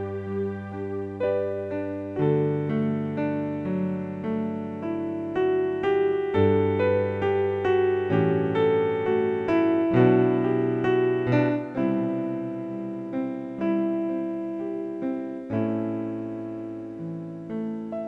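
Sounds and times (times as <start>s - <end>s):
keyboard music: 0.0s - 18.0s.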